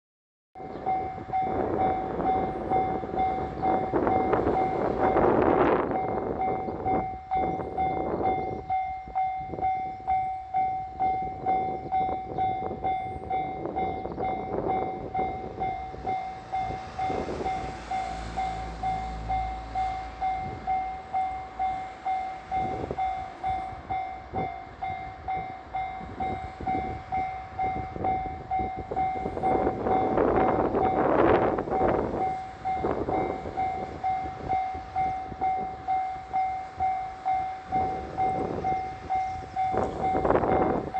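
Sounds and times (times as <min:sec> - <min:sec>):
diesel train passing: 0:00.6 - 0:40.9
level-crossing warning bell ringing: 0:00.6 - 0:40.9
low rumble: 0:00.7 - 0:40.9.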